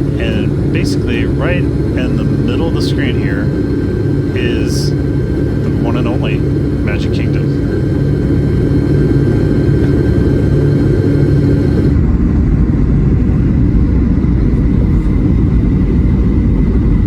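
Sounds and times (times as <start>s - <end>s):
airliner cabin low rumble: 0.0s - 17.0s.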